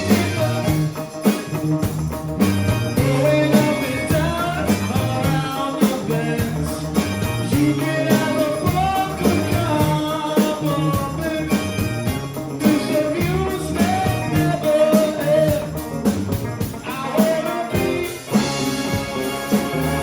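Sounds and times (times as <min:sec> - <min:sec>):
person singing: 0:00.0 - 0:01.4, 0:02.9 - 0:16.0, 0:16.6 - 0:20.0
rock band playing: 0:00.0 - 0:20.0
steady drum beat: 0:00.0 - 0:20.0.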